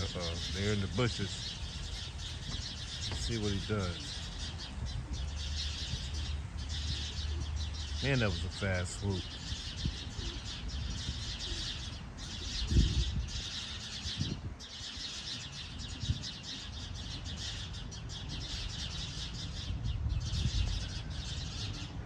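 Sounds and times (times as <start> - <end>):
sparrows chirping: 0.0 - 22.0.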